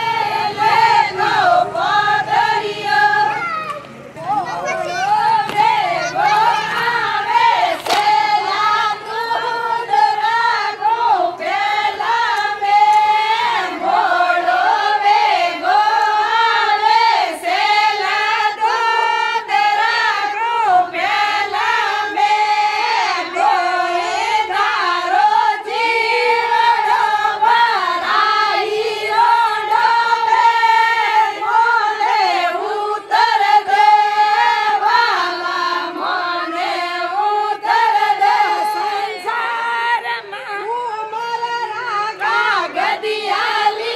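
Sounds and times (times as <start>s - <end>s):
women singing folk song: 0.0s - 3.5s, 4.2s - 43.9s.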